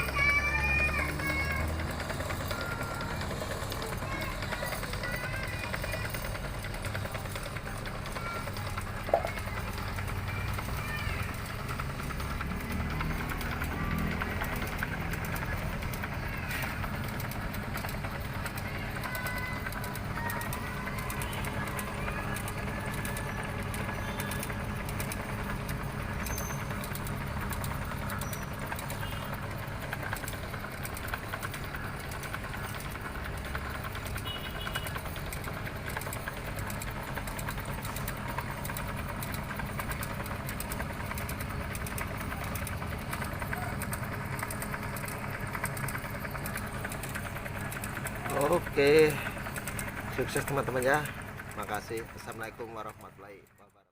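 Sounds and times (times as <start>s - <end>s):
noodle machine motor humming: 0.0s - 53.8s.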